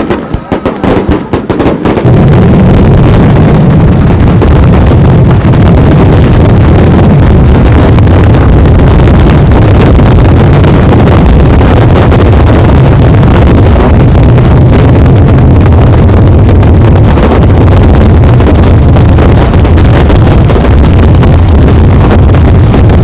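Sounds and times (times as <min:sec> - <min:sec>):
firecrackers barrage: 0:00.0 - 0:23.0.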